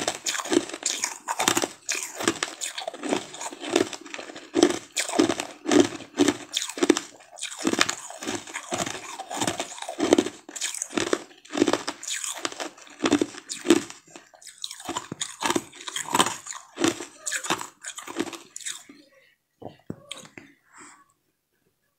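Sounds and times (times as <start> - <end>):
crunching and chewing ice treat: 0.0 - 19.0.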